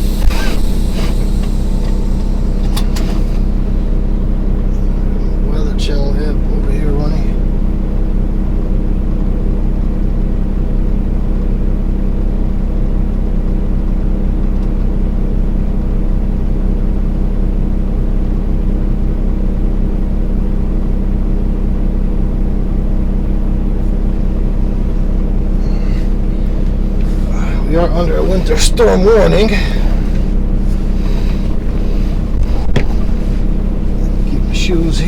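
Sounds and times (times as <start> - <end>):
diesel engine drone in truck cab: 0.0 - 35.0.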